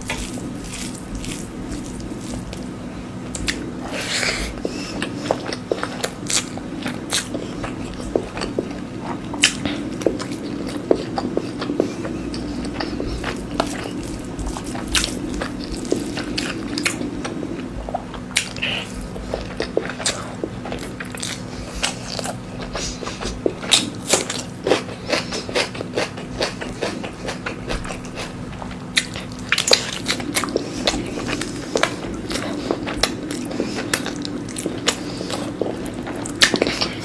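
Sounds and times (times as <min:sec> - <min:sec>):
chewing and mouth sounds: 0:00.0 - 0:37.0
low hum: 0:00.0 - 0:37.0.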